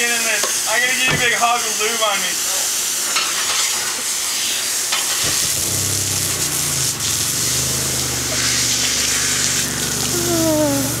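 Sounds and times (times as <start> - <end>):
hose spraying water on pavement: 0.0 - 11.0.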